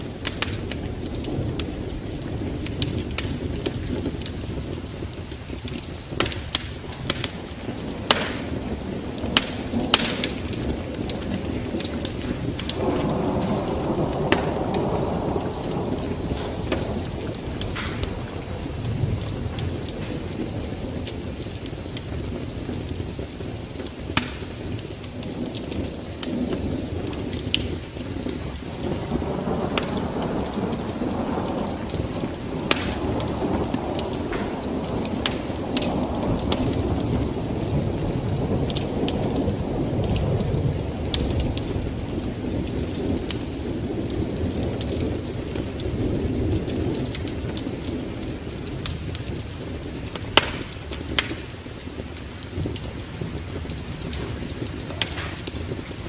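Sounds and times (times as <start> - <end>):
fire crackling and popping: 0.0 - 56.0
fire flames rushing: 0.0 - 56.0.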